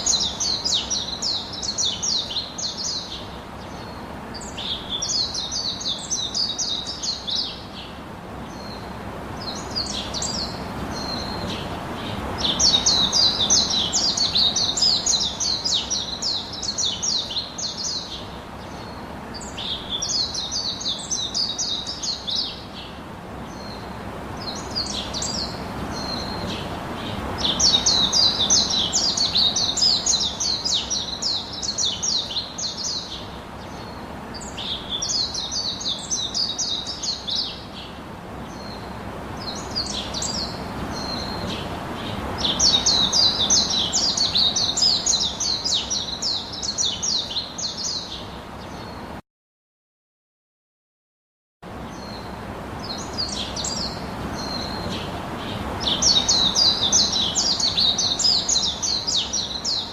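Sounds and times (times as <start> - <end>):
birds chirping: 0.0 - 49.2, 51.8 - 59.9
steady background hiss: 0.0 - 49.2, 51.7 - 59.9.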